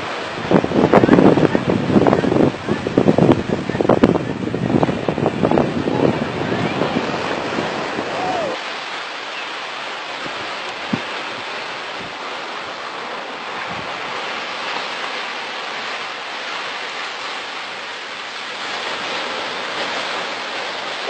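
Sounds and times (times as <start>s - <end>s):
ocean surf on beach: 0.0s - 21.0s
wind on microphone: 0.0s - 21.0s.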